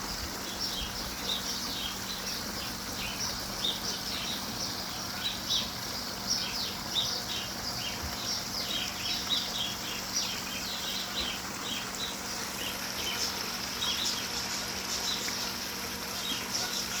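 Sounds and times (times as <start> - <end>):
faint steady hum: 0.0 - 17.0
small birds chirping: 0.1 - 17.0.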